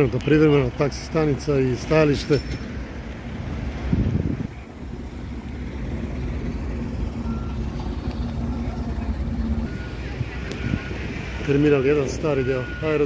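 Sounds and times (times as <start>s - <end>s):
cars idling and moving slowly: 0.0s - 13.0s.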